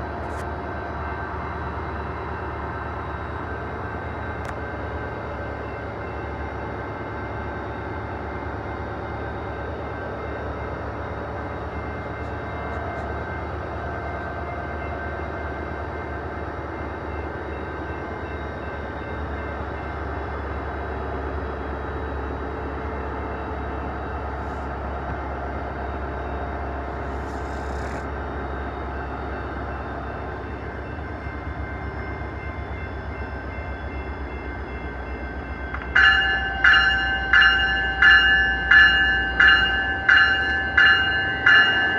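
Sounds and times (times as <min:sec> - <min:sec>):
train diesel engine rumbling: 0:00.0 - 0:41.9.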